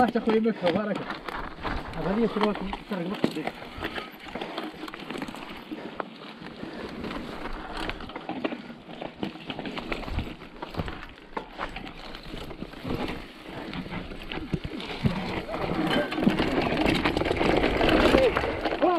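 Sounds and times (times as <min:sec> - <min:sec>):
bike clicks and rattles: 0:00.0 - 0:18.9
bike tyres on loose ground: 0:00.0 - 0:18.9.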